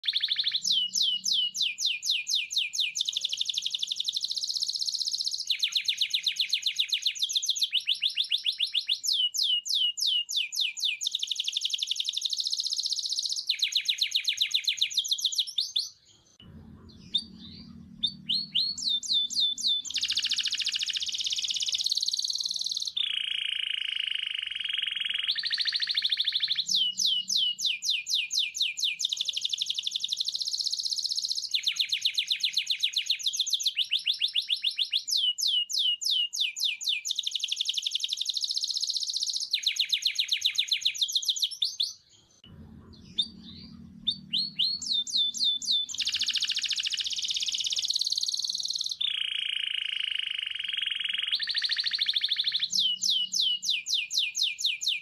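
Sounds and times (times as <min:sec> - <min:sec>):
birds chirping in trills: 0:00.0 - 0:33.0, 0:37.1 - 0:55.0.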